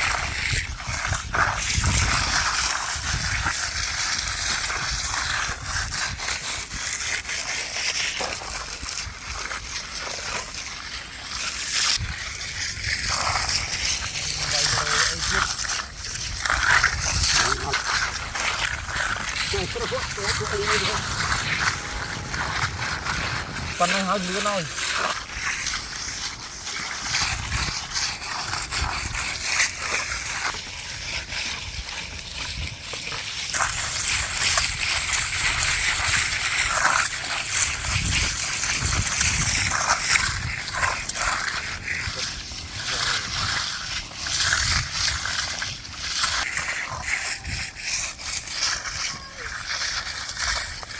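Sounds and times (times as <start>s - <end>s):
wet concrete sloshing: 0.0s - 50.9s.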